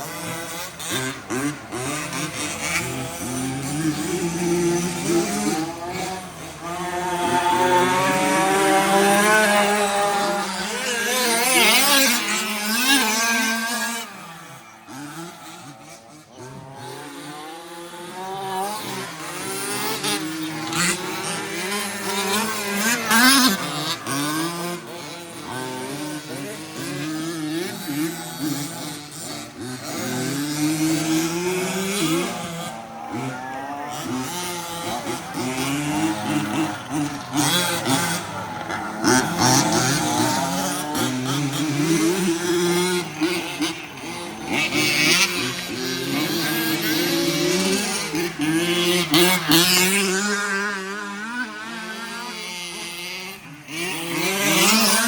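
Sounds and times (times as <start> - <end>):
rc truck motors whining: 0.0 - 55.0
tyre noise on track: 0.0 - 55.0.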